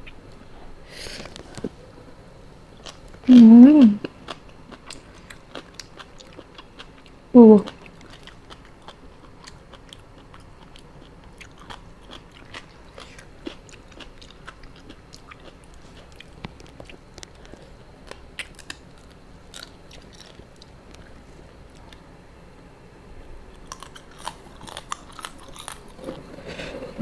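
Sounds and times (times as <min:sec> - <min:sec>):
person chewing and crunching: 0:02.8 - 0:22.0, 0:23.5 - 0:27.0.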